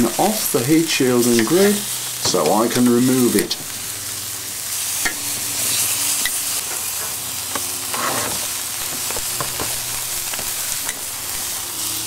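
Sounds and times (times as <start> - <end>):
grill sizzling: 0.0 - 12.0.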